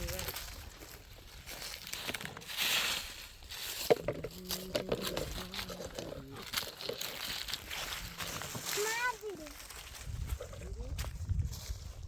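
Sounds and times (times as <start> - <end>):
dry leaves and twigs crunching: 0.0 - 12.0.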